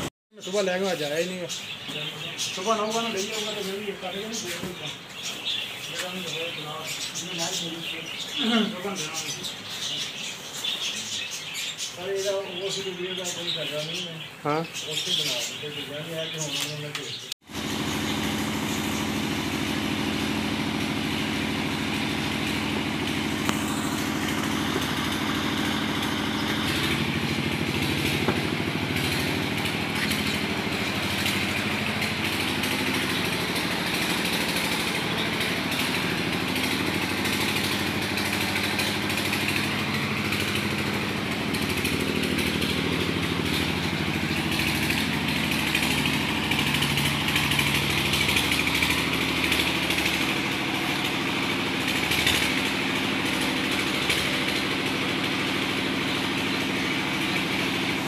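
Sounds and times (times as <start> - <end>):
small engine idling: 0.0 - 58.0.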